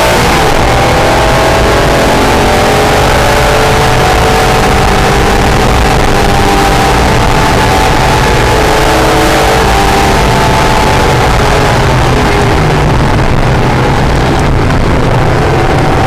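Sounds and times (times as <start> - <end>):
car engine accelerating: 0.0 - 16.0
wind and road noise: 0.0 - 16.0.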